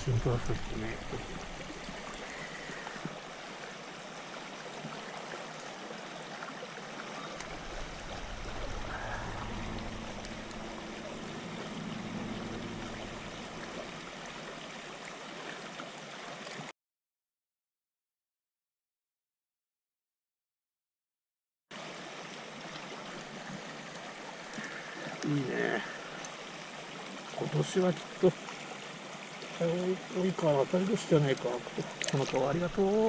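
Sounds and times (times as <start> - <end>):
stream trickling over stones: 0.0 - 16.7, 21.7 - 33.0.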